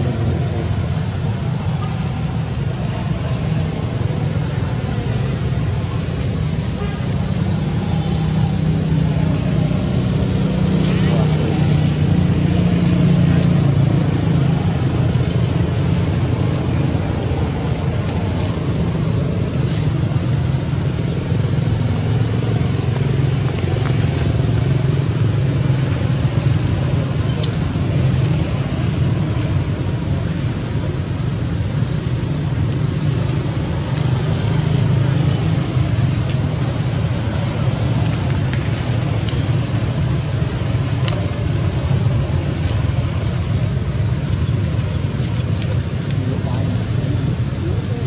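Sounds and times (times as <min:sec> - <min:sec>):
low motor rumble: 0:00.0 - 0:48.0.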